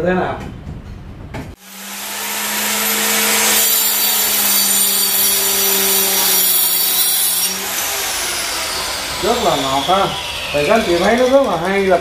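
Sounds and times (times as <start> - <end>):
circular saw motor whine: 1.6 - 11.7
saw blade cutting wood: 1.6 - 12.0.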